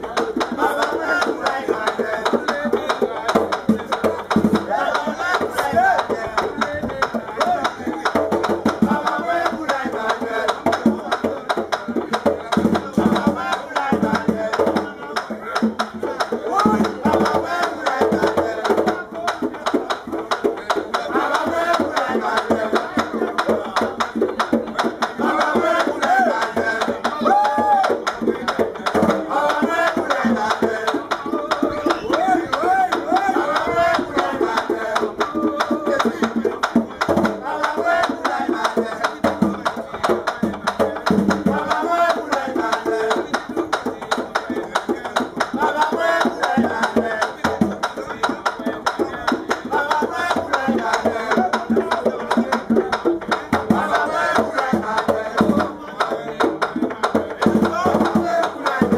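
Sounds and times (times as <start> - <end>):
hand drum driving rhythm: 0.0 - 58.9
men singing: 0.0 - 58.9.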